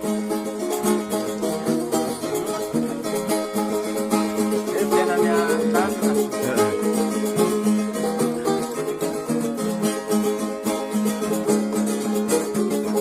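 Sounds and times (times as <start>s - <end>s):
strummed string instrument music: 0.0s - 13.0s.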